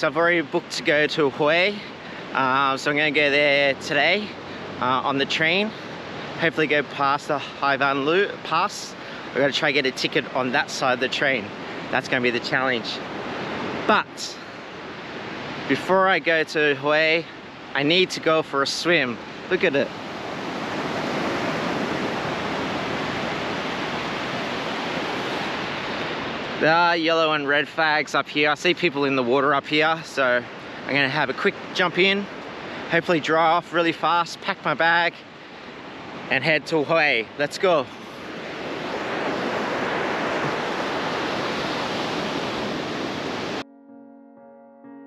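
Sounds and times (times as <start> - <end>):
waves washing on a beach: 0.0 - 43.6.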